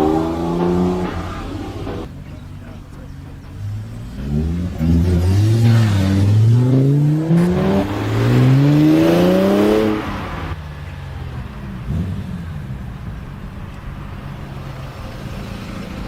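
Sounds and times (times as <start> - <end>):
car accelerating through gears: 0.0 - 16.0.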